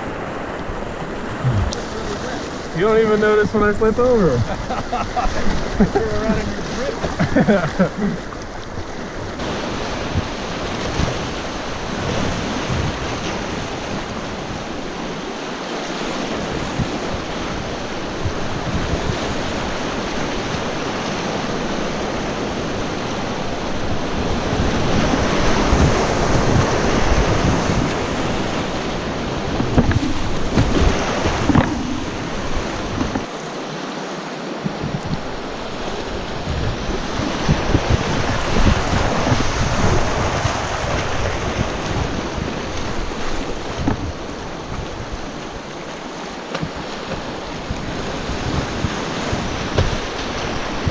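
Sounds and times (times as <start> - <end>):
wind buffeting microphone: 0.0 - 15.3, 16.0 - 33.3, 34.6 - 45.9, 46.6 - 50.9
whitewater rushing: 0.0 - 50.9.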